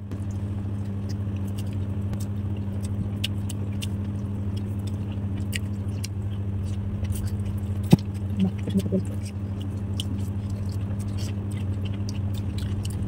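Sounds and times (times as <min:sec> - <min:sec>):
steady low hum: 0:00.0 - 0:13.0
chewing clicks: 0:00.1 - 0:13.0.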